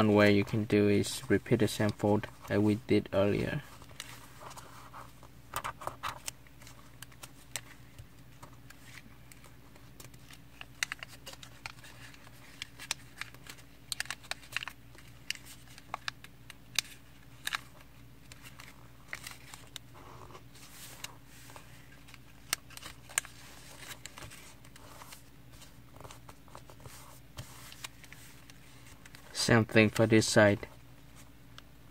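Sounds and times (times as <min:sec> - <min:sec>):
paper crinkling and creasing: 0:00.0 - 0:31.3
faint steady hum: 0:00.0 - 0:31.9.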